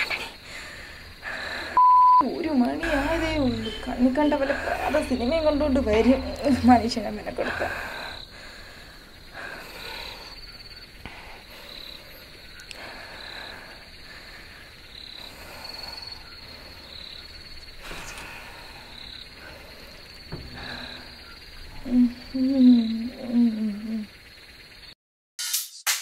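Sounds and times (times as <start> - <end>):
frogs: 0.0 - 25.0
insects chirping: 0.0 - 25.0.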